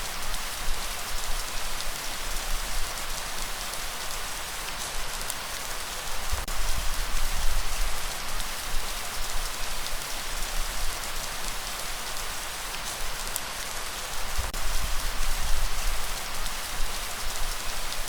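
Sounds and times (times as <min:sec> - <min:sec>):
steady rainfall: 0:00.0 - 0:18.0.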